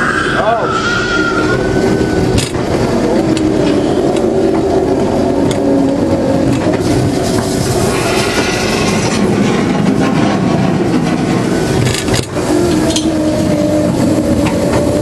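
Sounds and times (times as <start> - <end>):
ride car rumbling along track: 0.0 - 15.0.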